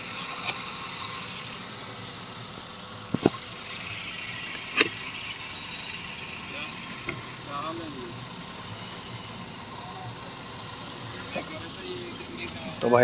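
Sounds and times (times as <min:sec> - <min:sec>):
engine-like rumble and hiss: 0:00.0 - 0:13.0.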